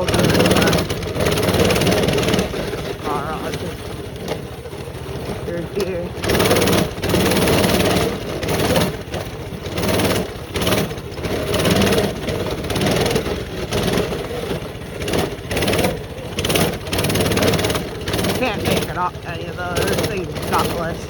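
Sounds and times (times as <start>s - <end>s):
small engine surging under load: 0.0s - 21.0s.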